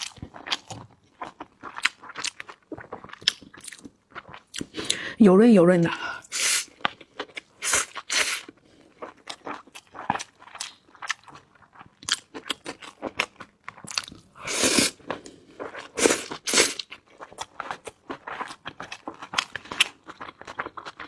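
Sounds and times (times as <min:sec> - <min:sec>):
chewing and crunching food: 0:00.0 - 0:05.1, 0:06.7 - 0:21.0.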